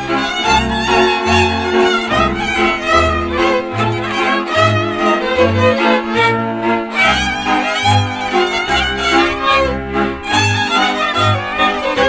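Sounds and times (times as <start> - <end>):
bowed double bass strokes: 0.0 - 12.0
fiddles playing melody: 0.0 - 12.0
string band playing folk music: 0.0 - 12.0
violas playing chords: 0.0 - 12.0.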